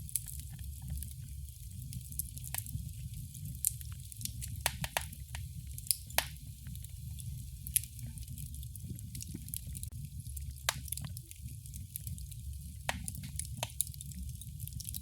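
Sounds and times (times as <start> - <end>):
fire crackles and pops: 0.0 - 15.0
wood fire rumbling and hissing: 0.0 - 15.0.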